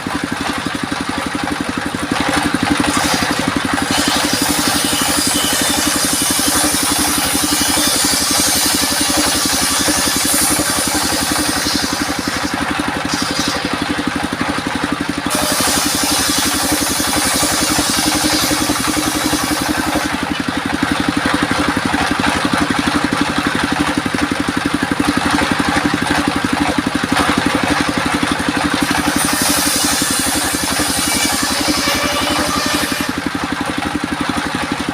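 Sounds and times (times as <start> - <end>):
sawmill engine pulsing: 0.0 - 34.9.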